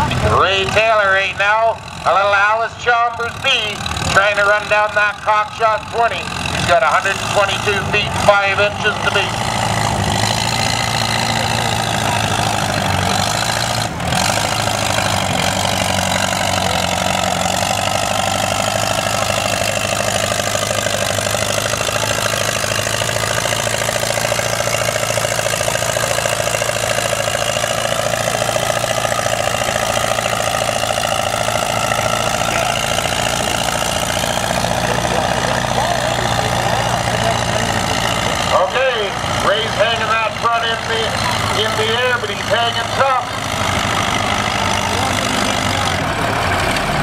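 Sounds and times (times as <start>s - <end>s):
tractor engine under heavy load: 0.0s - 47.0s.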